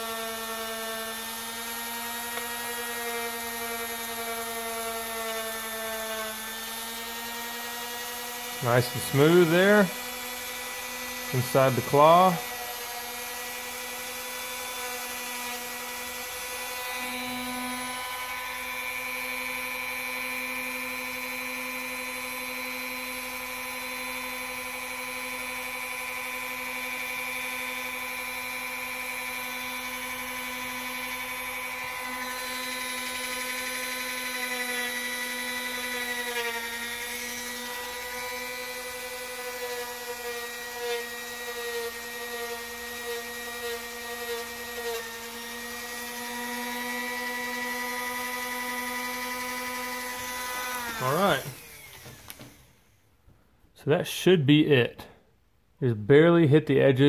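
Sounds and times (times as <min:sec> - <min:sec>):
rotary tool whining: 0:00.0 - 0:53.0.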